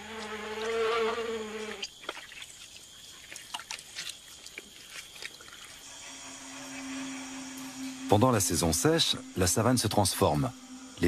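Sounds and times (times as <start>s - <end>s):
insect buzzing: 0.0s - 11.0s.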